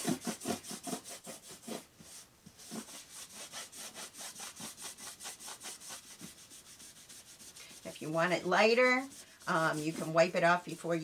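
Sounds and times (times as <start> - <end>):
cloth rag rubbing on wood: 0.0 - 11.0.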